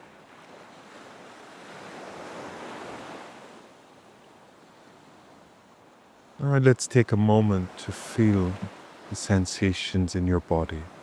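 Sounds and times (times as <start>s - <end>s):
ocean waves washing ashore: 0.0s - 11.0s.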